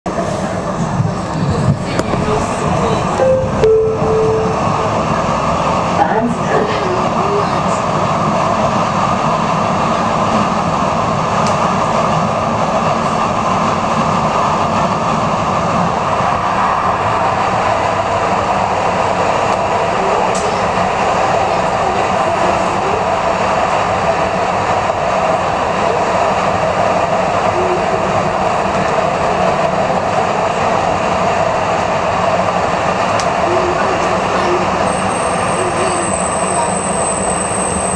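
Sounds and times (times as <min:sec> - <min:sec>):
train wheels rumbling on rails: 0:00.1 - 0:37.9.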